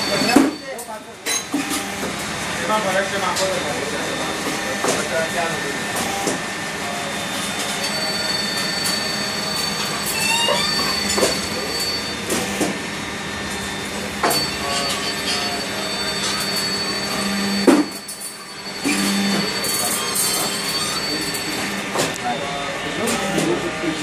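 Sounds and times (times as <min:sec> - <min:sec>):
roll forming machine whine: 0:00.0 - 0:24.0.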